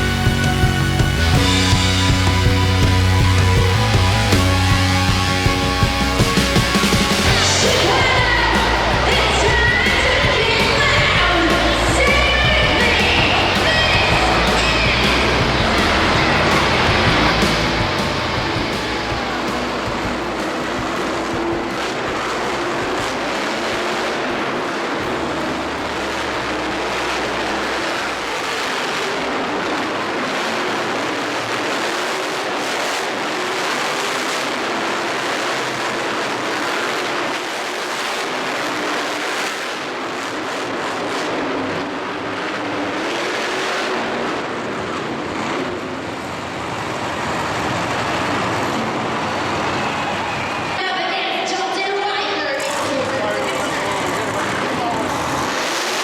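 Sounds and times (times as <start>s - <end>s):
racing engines revving loudly: 0.0s - 56.0s.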